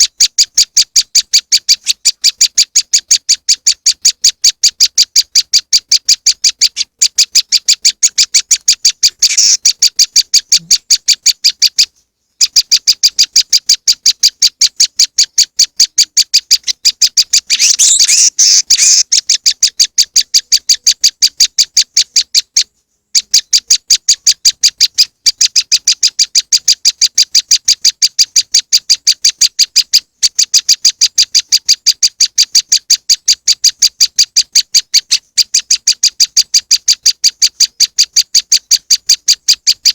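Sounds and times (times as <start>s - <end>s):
high sharp bird calls: 0.0s - 39.9s.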